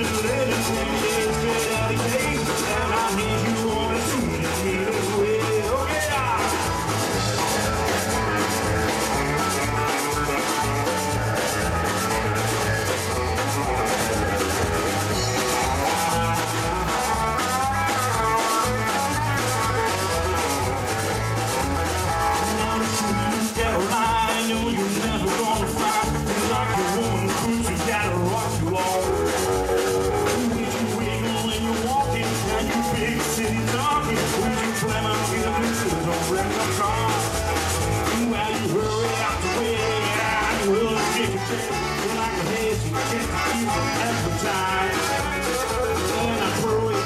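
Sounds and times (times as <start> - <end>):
accordion: 0.0 - 47.0
drum kit steady beat: 0.0 - 47.0
electric guitars: 0.0 - 47.0.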